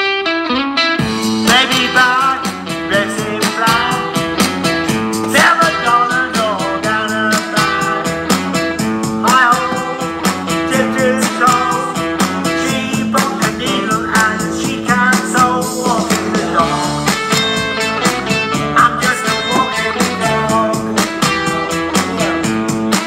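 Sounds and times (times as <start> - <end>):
blues backing with steady beat: 0.0 - 23.0
blues harmonica: 0.0 - 23.0.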